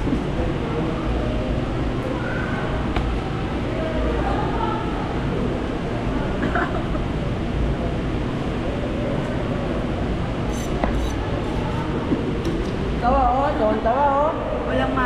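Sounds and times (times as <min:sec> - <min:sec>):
low rumbling restaurant din: 0:00.0 - 0:15.0.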